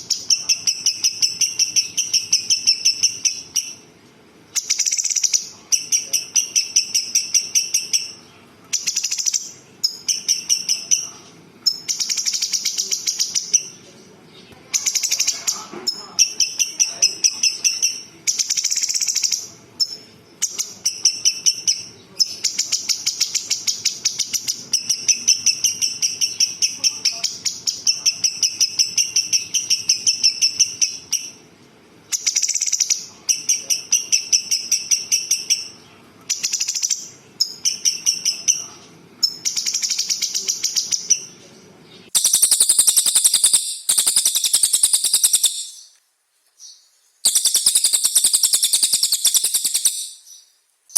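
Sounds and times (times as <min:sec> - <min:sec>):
songbird trilling: 0:00.0 - 0:03.9, 0:04.5 - 0:31.4, 0:32.1 - 0:46.0, 0:46.6 - 0:50.5.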